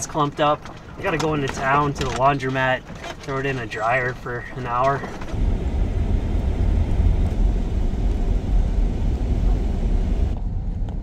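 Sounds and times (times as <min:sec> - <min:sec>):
van driving rumble from inside: 0:00.0 - 0:11.0.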